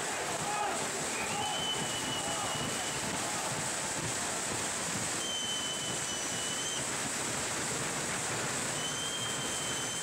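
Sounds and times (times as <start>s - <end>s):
arena noise hiss: 0.0s - 10.0s.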